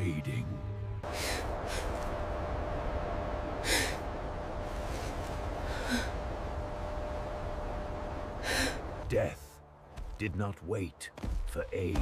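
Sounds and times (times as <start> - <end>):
steady low rumble: 0.0 - 10.4.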